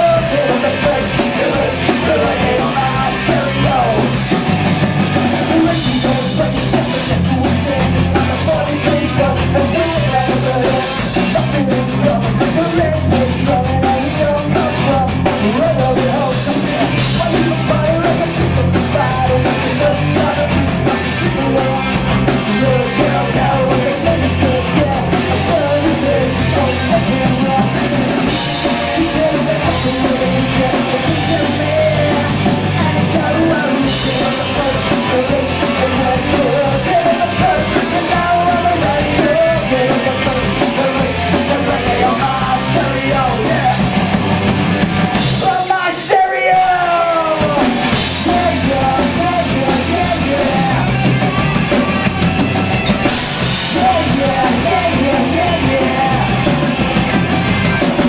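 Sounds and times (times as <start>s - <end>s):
man singing into a microphone: 0.0s - 4.3s, 5.4s - 44.1s, 45.2s - 51.1s, 53.6s - 56.9s
bass guitar: 0.0s - 58.0s
drum kit: 0.0s - 58.0s
electric guitars: 0.0s - 58.0s.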